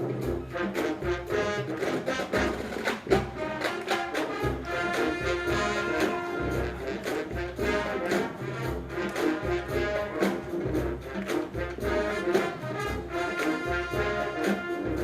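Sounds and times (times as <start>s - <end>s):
brass horns playing held chords: 0.0s - 15.0s
marching percussion beat: 0.0s - 15.0s.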